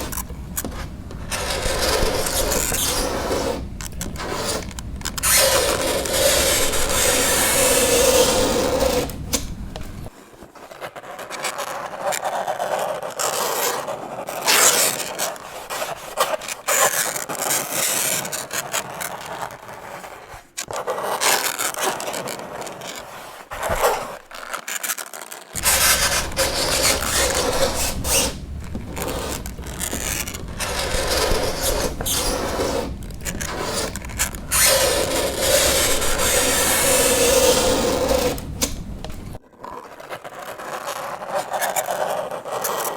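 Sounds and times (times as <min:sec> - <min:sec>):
fingernails scraping a chalkboard: 0:00.0 - 0:24.6, 0:25.6 - 0:42.9.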